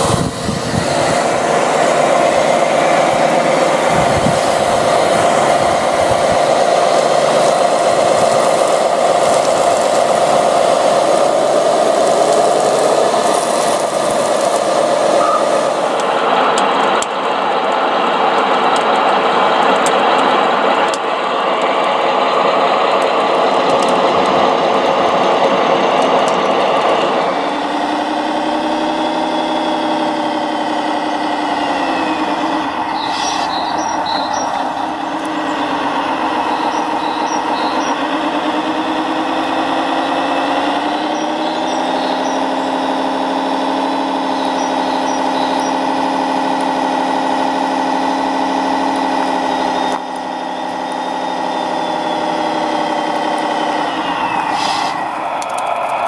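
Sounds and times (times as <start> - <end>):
motor whine: 0.0 - 56.0.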